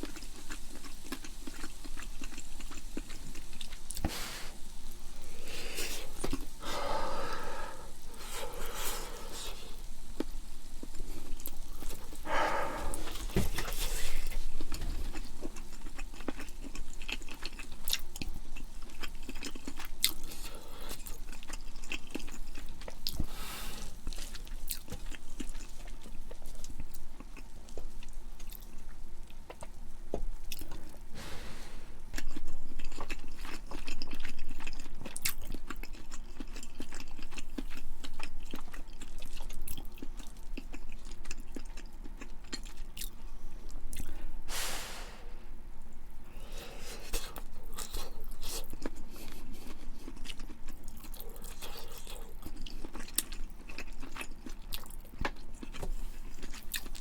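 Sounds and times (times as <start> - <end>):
person chewing food: 0.0 - 45.3, 46.3 - 57.0.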